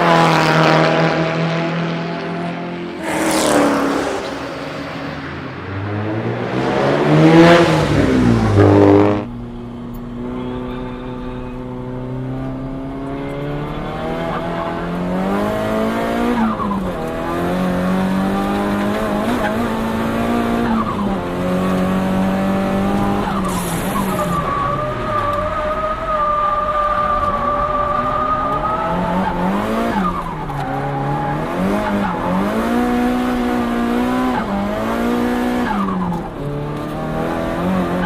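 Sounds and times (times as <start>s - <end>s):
turbocharged car engine revving: 0.0s - 38.0s.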